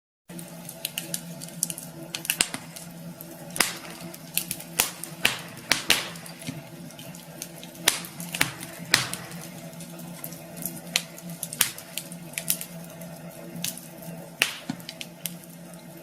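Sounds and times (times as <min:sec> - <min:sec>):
low hum: 0:00.3 - 0:16.0
wood fire crackling: 0:00.3 - 0:16.0.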